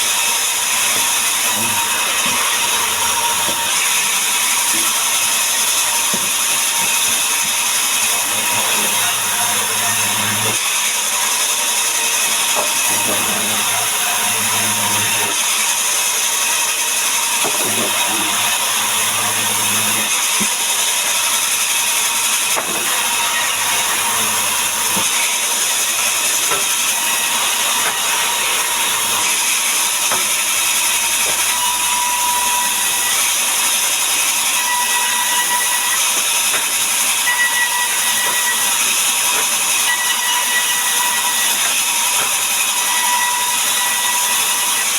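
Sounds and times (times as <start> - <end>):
power saw cutting wood: 0.0 - 44.9.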